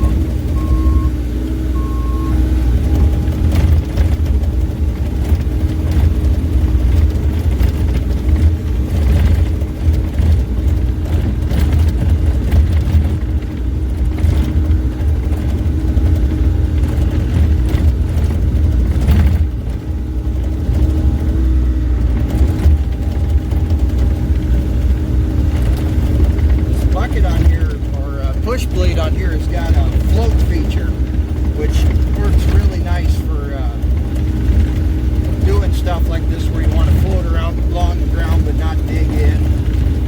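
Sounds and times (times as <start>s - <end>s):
excavator diesel engine running: 0.0s - 40.0s
excavator clanks and knocks: 1.8s - 40.0s.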